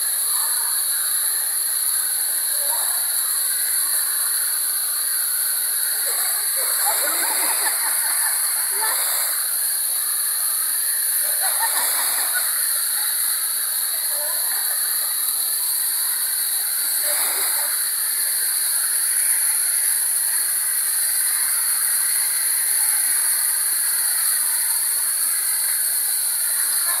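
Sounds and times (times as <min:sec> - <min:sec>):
small waterfall rushing: 0:00.0 - 0:27.0.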